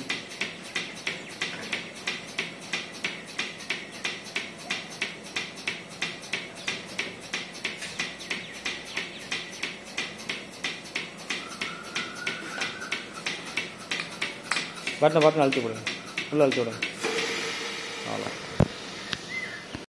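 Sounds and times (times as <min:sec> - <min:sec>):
milking machine pulsator clicks: 0:00.0 - 0:19.9.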